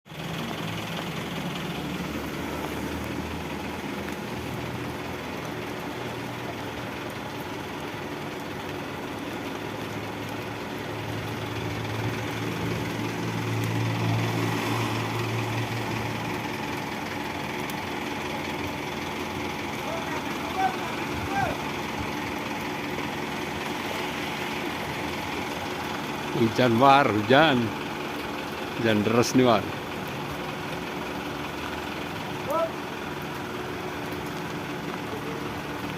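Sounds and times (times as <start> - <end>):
heavy rain hissing: 0.1 - 35.9
vehicle engine idling: 0.1 - 35.9.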